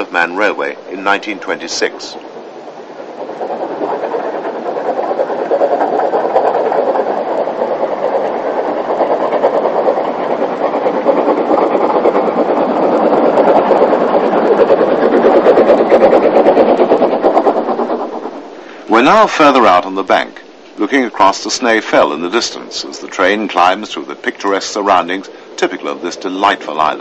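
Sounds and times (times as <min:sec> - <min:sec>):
steam locomotive exhaust beats: 0:00.0 - 0:27.0.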